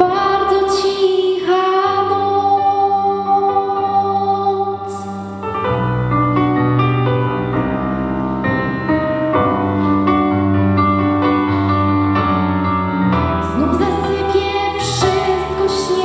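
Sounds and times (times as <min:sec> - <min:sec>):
piano ballad backing track: 0:00.0 - 0:16.0.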